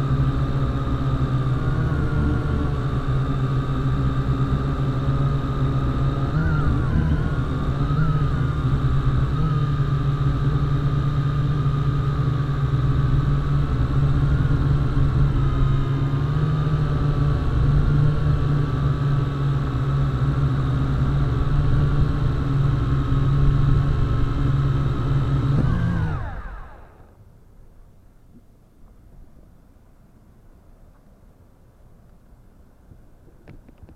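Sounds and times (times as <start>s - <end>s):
drone motors humming and whining: 0.0s - 27.4s.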